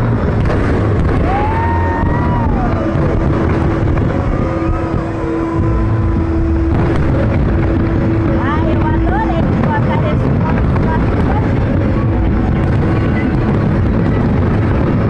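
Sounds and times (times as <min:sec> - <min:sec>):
fireworks booming: 0:00.0 - 0:15.0
steady low tone: 0:00.0 - 0:15.0.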